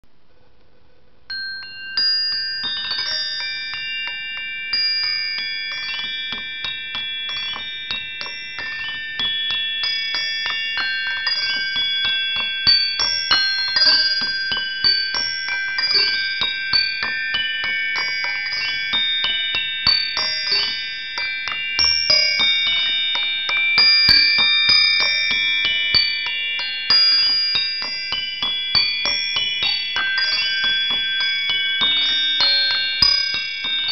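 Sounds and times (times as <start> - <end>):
bell-like metallic notes: 1.3 - 33.9.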